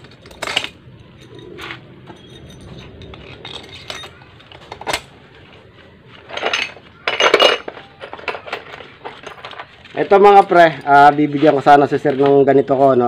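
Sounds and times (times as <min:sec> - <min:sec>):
metal parts clinking: 0:00.0 - 0:12.3
metal parts rattling: 0:00.0 - 0:12.4.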